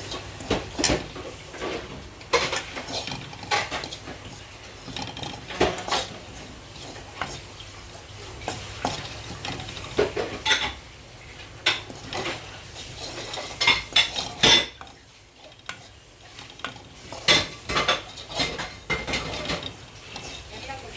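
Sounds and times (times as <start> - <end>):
utensil scraping a metal pan: 0.0 - 20.9.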